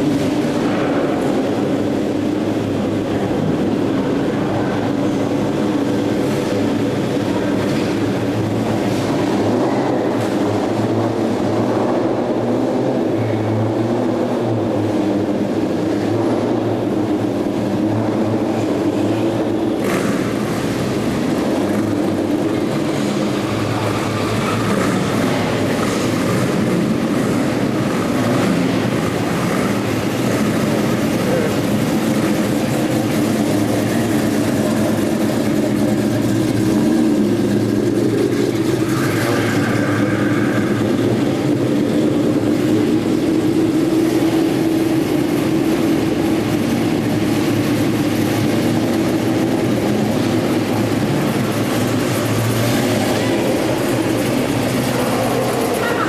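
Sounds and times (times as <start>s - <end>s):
car engines rumbling in a hall: 0.0s - 56.0s.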